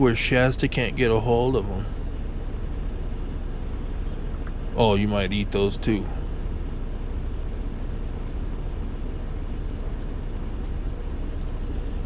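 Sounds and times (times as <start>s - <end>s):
truck idling: 0.0s - 12.0s.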